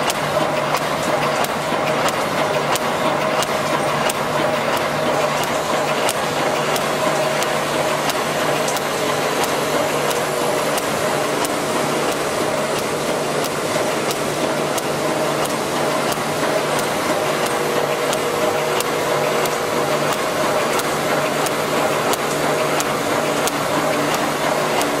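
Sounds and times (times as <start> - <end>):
sharp machine clicks: 0.0 - 25.0
machine humming: 1.4 - 25.0.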